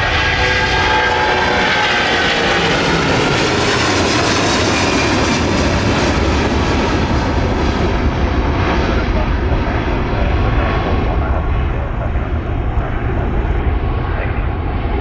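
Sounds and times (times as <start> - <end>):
jet airliner roar passing: 0.0 - 15.0
jet engine whine falling: 0.0 - 15.0.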